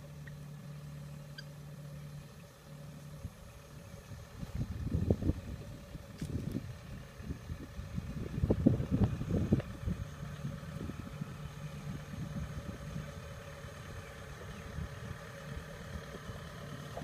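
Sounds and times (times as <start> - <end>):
harvester engine drone: 0.0 - 17.0.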